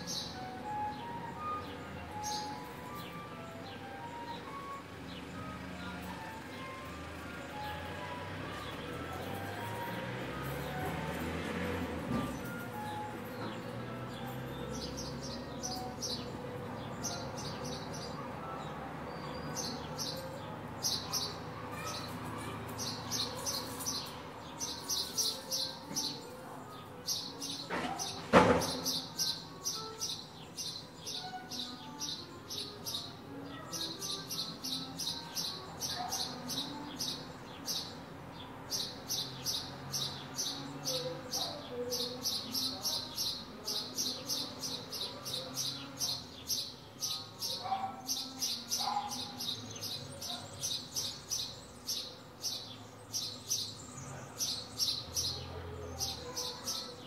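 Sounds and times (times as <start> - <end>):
faint street background: 0.0 - 57.0.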